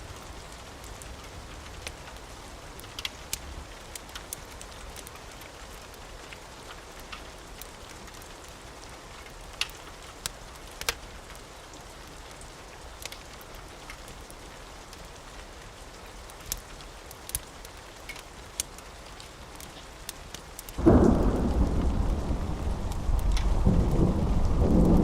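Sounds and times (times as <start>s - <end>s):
rain hiss: 0.0s - 25.0s
wood fire crackling: 0.0s - 25.0s.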